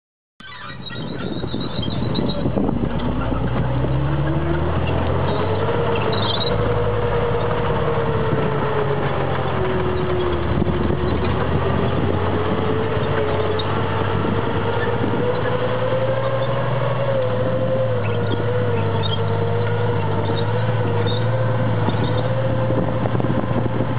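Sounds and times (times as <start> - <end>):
engine whine rising in pitch: 0.4 - 23.9
tank engine running: 0.4 - 23.9
tank tracks driving by: 0.4 - 23.9.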